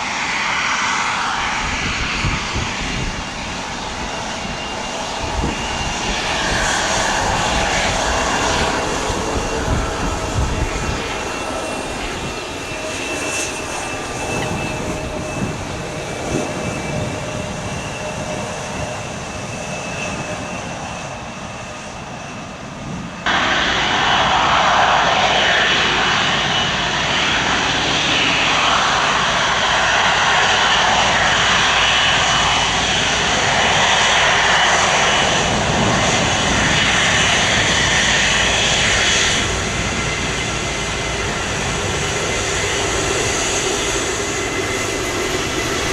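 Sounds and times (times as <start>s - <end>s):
aircraft roaring close by: 0.0s - 45.9s
airliner engine with thin whine: 0.0s - 45.9s.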